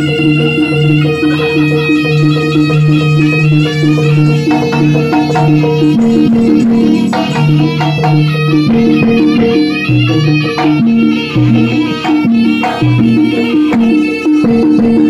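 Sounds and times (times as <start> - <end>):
drum strokes: 0.0 - 15.0
reedy shawm melody: 0.0 - 15.0.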